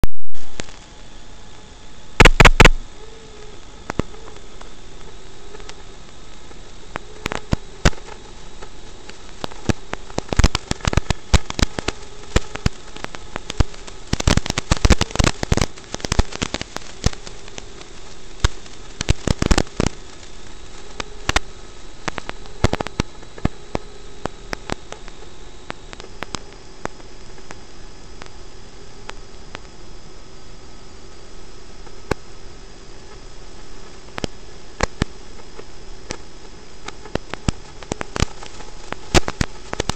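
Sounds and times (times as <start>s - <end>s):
crackling static hiss: 0.0s - 39.9s
faint wavering hum: 0.0s - 39.9s.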